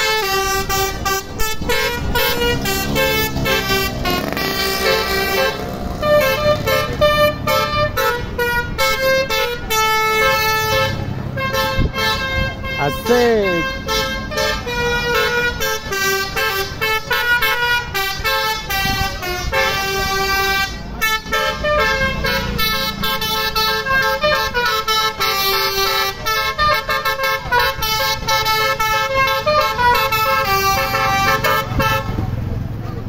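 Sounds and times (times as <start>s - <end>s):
musical car horn tune: 0.0s - 32.2s.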